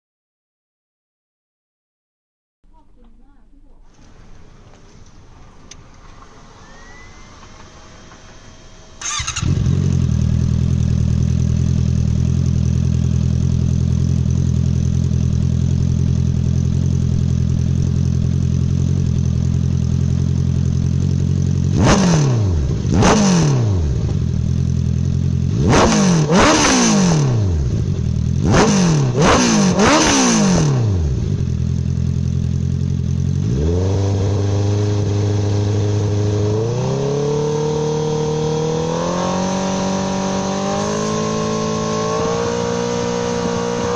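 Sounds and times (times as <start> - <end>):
motorcycle engine idling and revving: 5.1 - 43.9.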